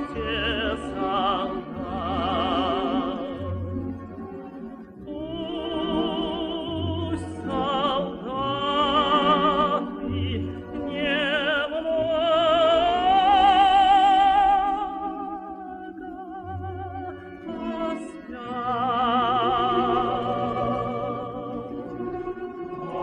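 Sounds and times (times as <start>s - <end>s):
person singing with vibrato: 0.0s - 3.9s, 5.0s - 22.0s.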